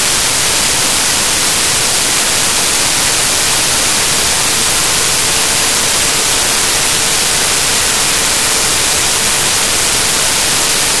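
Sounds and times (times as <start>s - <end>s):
faint steady hum: 0.0s - 11.0s
static hiss: 0.0s - 11.0s.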